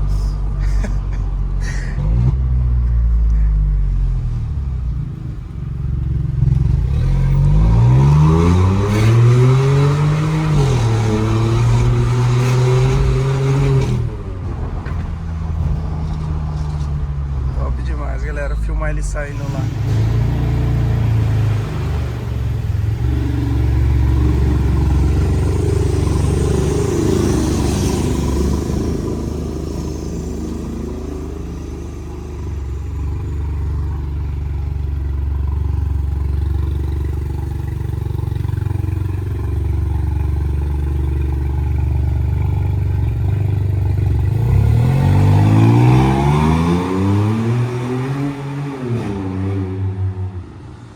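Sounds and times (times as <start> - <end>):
car engine rumbling and revving: 0.0 - 50.9.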